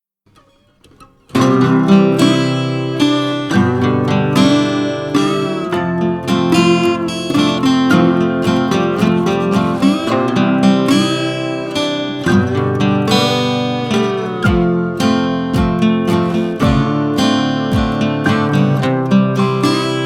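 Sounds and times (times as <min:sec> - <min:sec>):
acoustic guitar strummed and plucked: 0:00.3 - 0:20.0.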